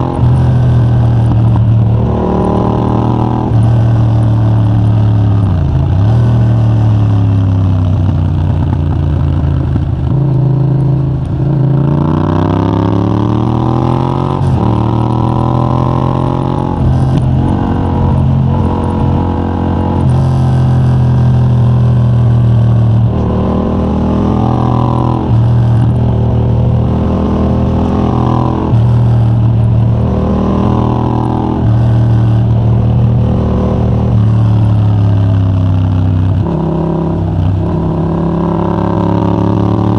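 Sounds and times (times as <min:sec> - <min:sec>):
motorcycle accelerating hard: 0:00.0 - 0:39.9.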